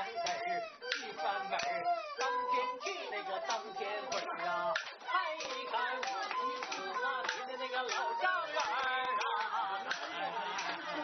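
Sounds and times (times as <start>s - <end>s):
folk singing: 0.0s - 11.0s
sharp rhythmic claps: 0.0s - 11.0s.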